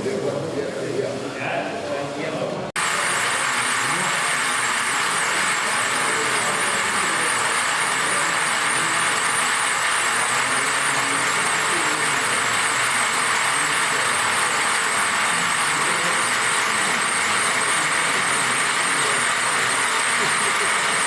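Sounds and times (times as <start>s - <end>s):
model trucks running: 2.8s - 21.0s.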